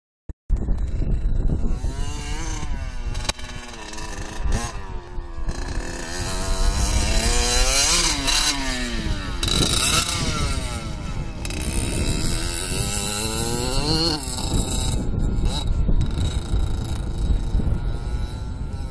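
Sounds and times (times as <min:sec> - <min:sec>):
motorcycle engine revving: 0:00.5 - 0:18.9.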